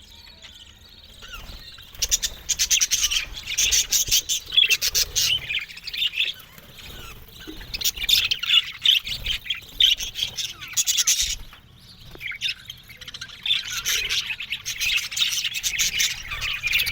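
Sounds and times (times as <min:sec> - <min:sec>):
budgerigars chattering and squawking: 0:00.0 - 0:16.9.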